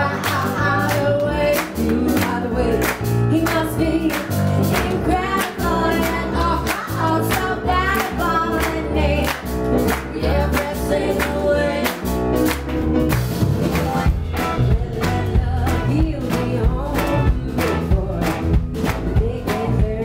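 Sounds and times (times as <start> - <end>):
woman singing: 0.0 - 12.0, 13.7 - 20.0
bass guitar: 0.0 - 20.0
electric guitar: 0.0 - 20.0.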